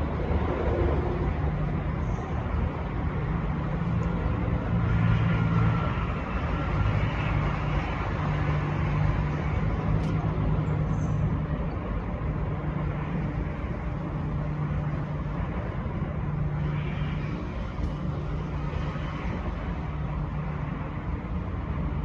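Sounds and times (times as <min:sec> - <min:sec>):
low motor rumble: 0:00.0 - 0:22.0.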